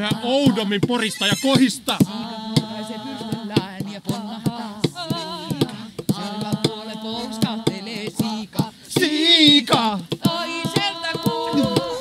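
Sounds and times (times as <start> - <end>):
group singing a cappella: 0.0 - 12.0
sharp percussive knocks: 0.0 - 12.0.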